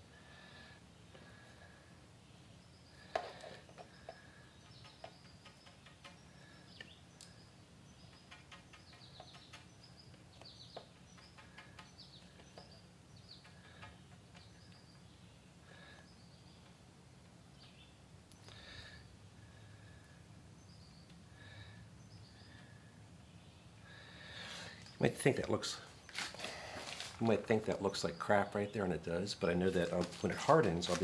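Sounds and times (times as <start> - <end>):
low steady hum: 0.0 - 31.0
faint bird chirps: 0.5 - 16.8, 17.5 - 26.6.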